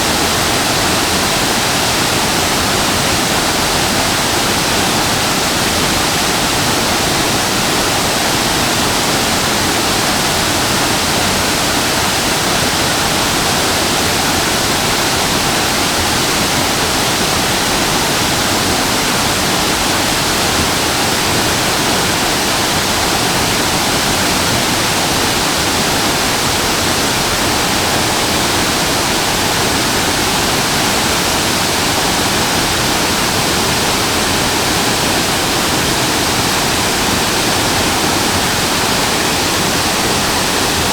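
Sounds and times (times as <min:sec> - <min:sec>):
waterfall crashing: 0:00.0 - 0:40.9.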